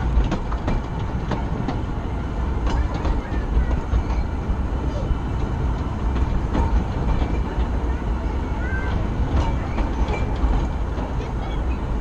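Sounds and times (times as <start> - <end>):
train carriage rumbling on rails: 0.0 - 12.0
wheels clicking and knocking: 0.0 - 12.0.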